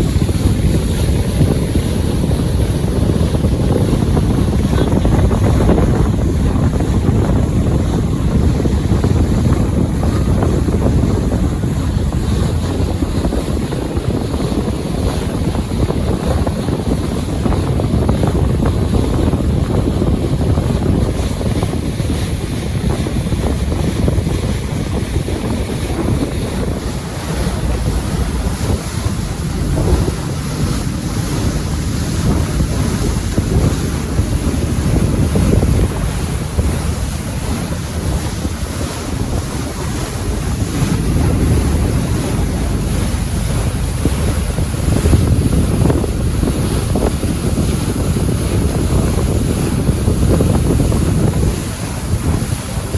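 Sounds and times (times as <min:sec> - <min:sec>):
waves washing: 0:00.0 - 0:52.9
wind buffeting microphone: 0:00.0 - 0:52.9.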